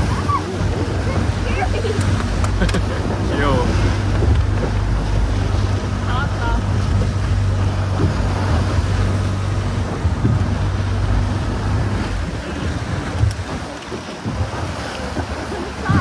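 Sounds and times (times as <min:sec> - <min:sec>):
boat engine humming: 0:00.0 - 0:16.0
water splashing along hull: 0:00.0 - 0:16.0
wind buffeting microphone: 0:00.0 - 0:16.0.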